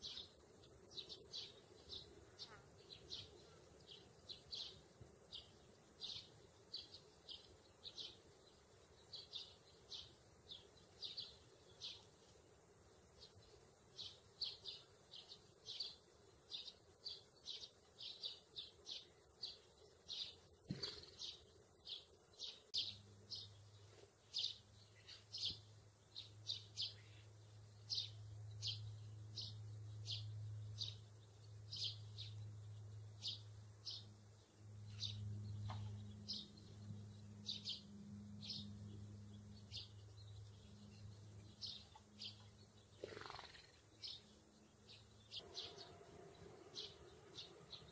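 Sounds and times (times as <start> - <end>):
sparrows chirping: 0.0 - 47.9.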